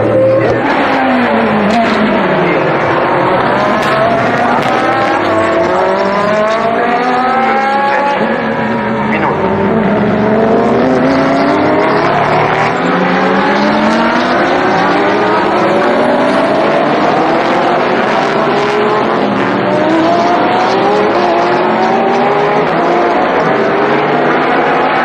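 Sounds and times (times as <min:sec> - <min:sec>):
race car engines at full throttle: 0:00.0 - 0:25.0.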